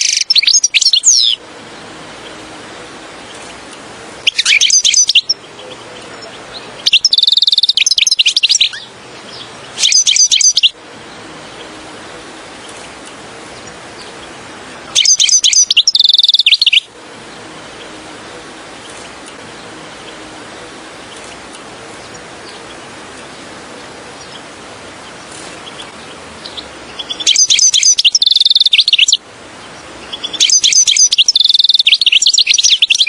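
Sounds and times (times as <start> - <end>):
finch twittering song: 0.0 - 33.0
steady hiss: 0.0 - 33.0.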